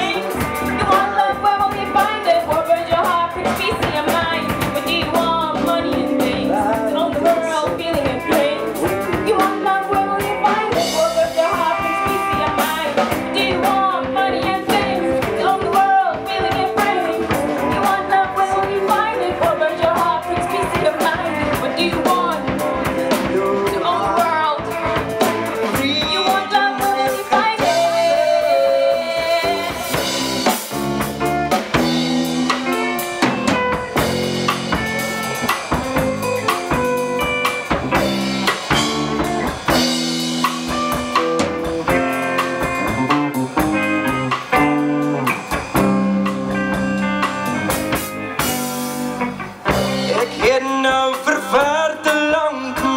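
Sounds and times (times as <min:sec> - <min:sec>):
band music with drums and guitar: 0:00.0 - 0:52.9.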